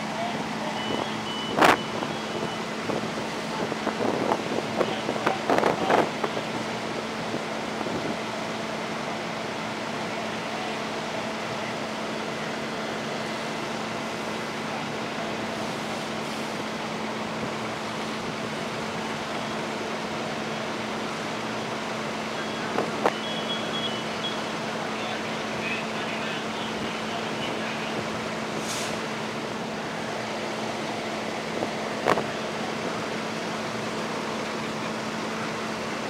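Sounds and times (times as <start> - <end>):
fire truck engine humming: 0.0 - 36.0.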